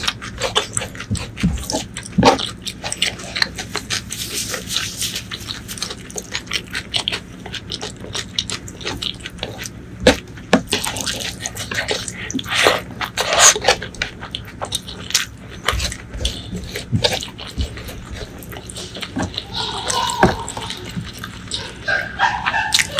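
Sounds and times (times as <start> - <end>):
chewing and mouth clicks: 0.0 - 22.9.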